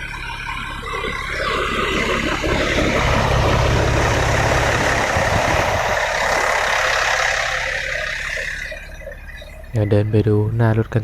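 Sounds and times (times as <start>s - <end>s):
vehicle engine pulsing rumble: 0.0s - 11.0s.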